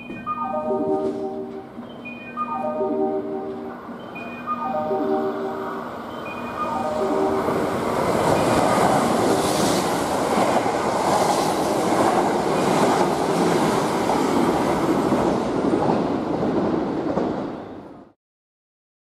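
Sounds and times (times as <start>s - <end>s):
train passing at speed: 0.0s - 18.2s.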